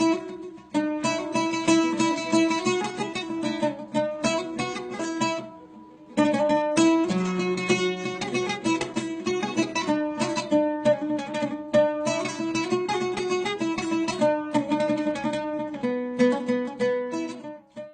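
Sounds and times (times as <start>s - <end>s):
plucked string instrument folk music: 0.0s - 17.9s.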